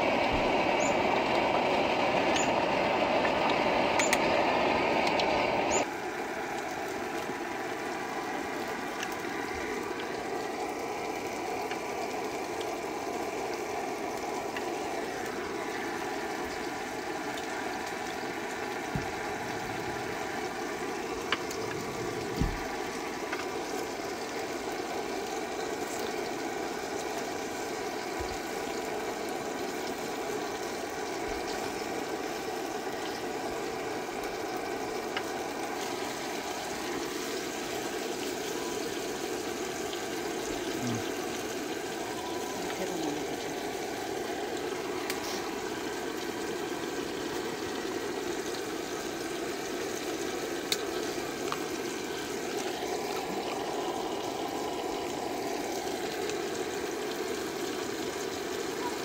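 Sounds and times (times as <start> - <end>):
gas burners hissing: 0.0 - 59.0.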